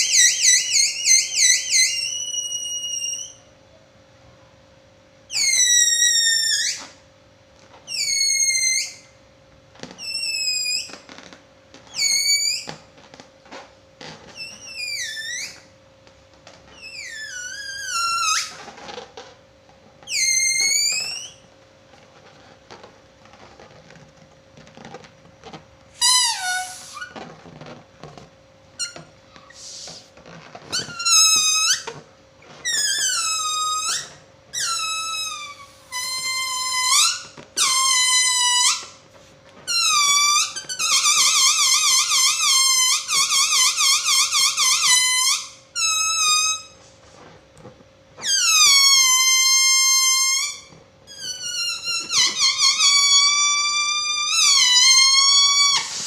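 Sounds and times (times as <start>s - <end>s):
balloon squealing: 0.0s - 3.5s, 5.3s - 7.0s, 7.7s - 9.2s, 9.8s - 15.7s, 16.4s - 47.3s, 48.2s - 56.0s.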